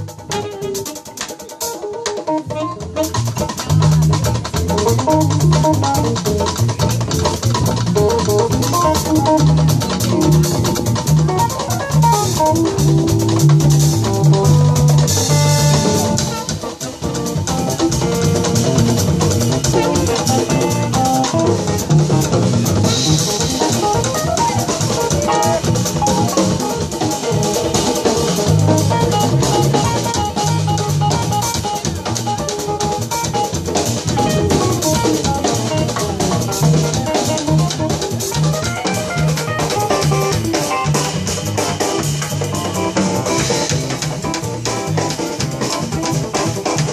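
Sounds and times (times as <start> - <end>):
hand drums: 0.0 - 46.9
jazz band playing: 0.0 - 46.9
bass line: 2.4 - 46.9.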